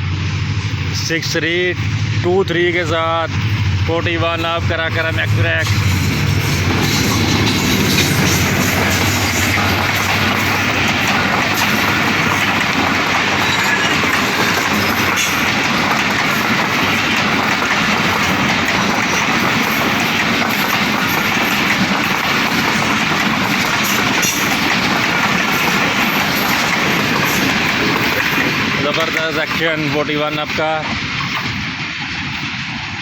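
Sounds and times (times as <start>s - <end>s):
train wheels rushing on rails: 0.0s - 33.0s
clickety-clack of rail joints: 1.0s - 33.0s.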